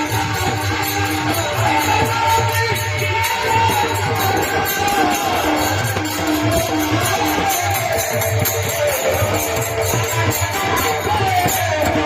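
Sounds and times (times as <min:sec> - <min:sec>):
devotional song melody: 0:00.0 - 0:12.0
jingling hand cymbals: 0:00.0 - 0:12.0
low drum beats: 0:00.0 - 0:12.0.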